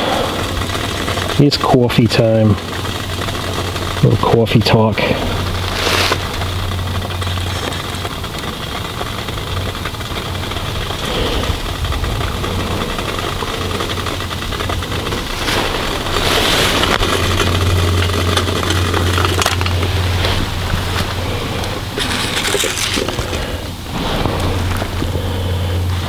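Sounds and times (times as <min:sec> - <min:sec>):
alcohol stove burning rumble: 0:00.0 - 0:26.0
handling clicks and rustles: 0:00.1 - 0:26.0.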